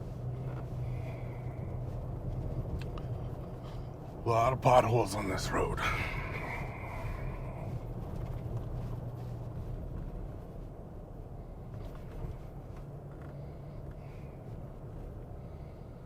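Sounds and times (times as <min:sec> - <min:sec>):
truck engine and road drone: 0:00.0 - 0:16.0.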